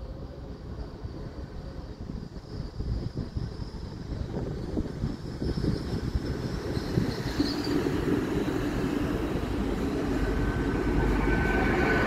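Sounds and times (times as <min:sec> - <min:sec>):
diesel train drone and rumble: 0:00.0 - 0:12.0.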